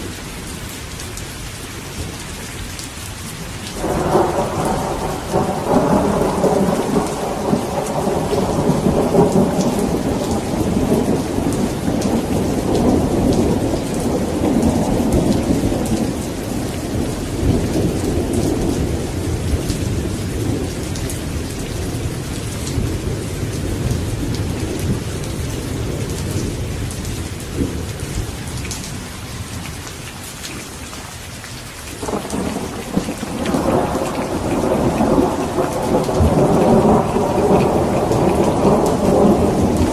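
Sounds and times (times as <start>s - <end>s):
steady rain: 0.0s - 39.9s
rolling thunder: 3.8s - 28.8s, 32.0s - 39.9s.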